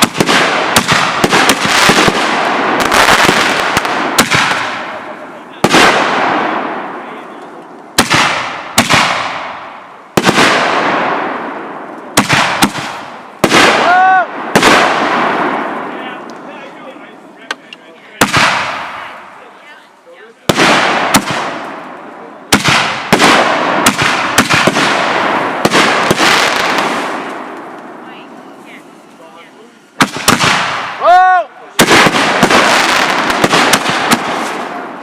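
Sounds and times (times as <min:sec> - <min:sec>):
fireworks bangs with crackling: 0:00.0 - 0:35.0.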